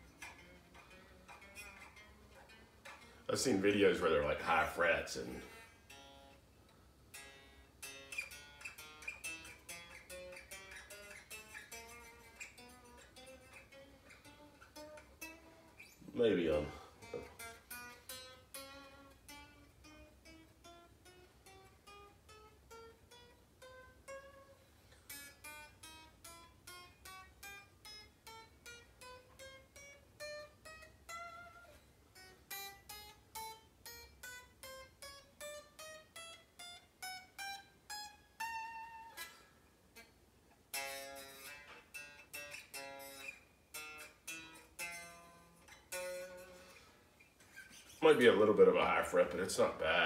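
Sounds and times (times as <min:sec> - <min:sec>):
electric guitar chords: 0:00.0 - 0:46.9
electric guitar single notes: 0:00.0 - 0:46.9, 0:47.6 - 0:50.0.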